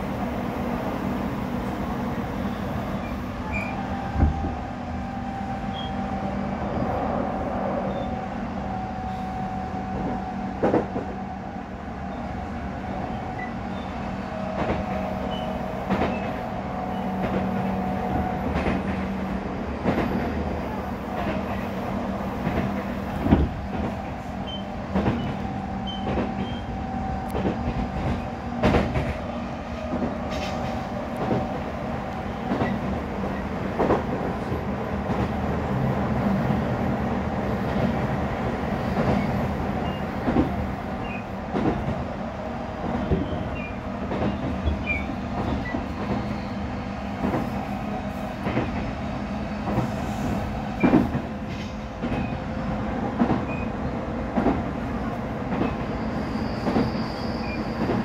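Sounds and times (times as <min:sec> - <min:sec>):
train wheels rolling: 0:00.0 - 0:11.5, 0:12.1 - 0:58.0.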